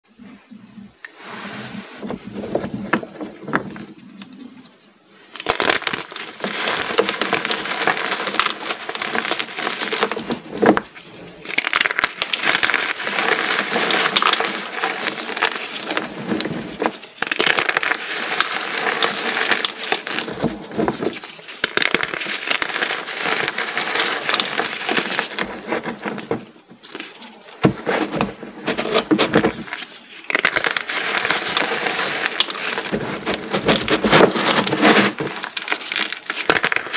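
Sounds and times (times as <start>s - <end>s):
chalk crunching crackle: 1.3s - 36.9s.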